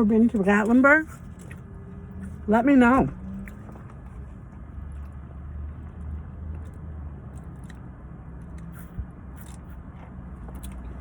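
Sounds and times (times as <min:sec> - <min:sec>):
person chewing food: 0:01.2 - 0:02.4, 0:03.2 - 0:11.0.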